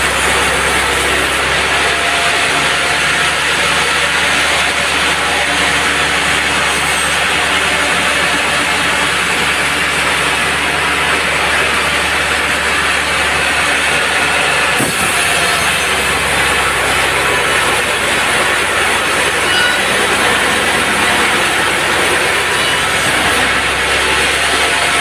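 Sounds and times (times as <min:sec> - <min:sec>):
band saw cutting log: 0:00.0 - 0:25.0.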